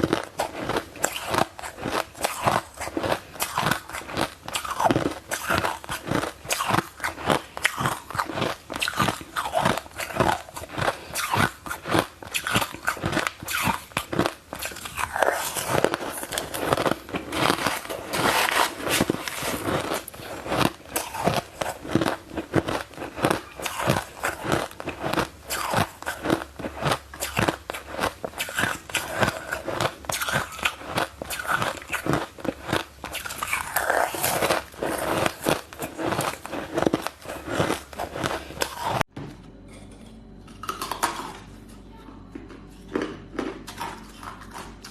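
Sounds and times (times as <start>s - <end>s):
ice crunching while chewed: 0.0s - 41.7s, 42.7s - 44.9s.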